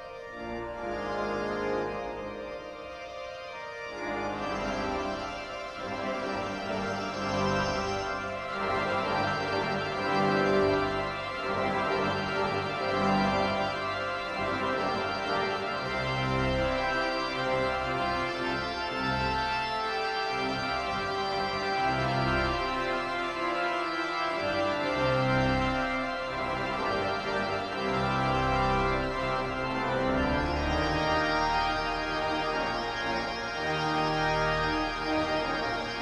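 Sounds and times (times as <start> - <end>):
pipe organ chords: 0.0 - 36.0.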